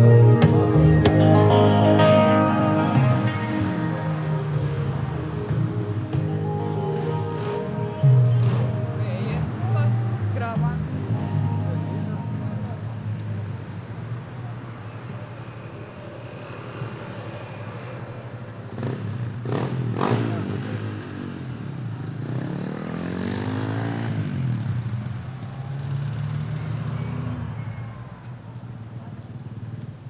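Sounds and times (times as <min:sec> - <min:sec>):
vehicle passing close by: 0:00.0 - 0:29.7.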